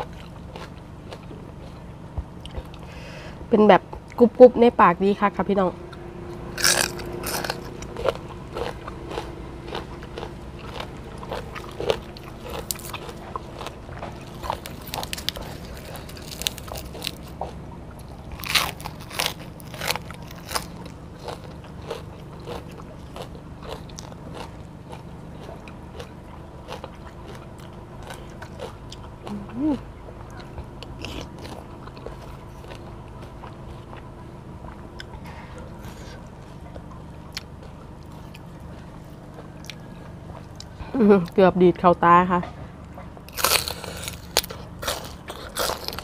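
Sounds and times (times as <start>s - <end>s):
mouth chewing crunchy food: 0.0s - 3.2s, 5.9s - 41.4s, 42.8s - 46.0s.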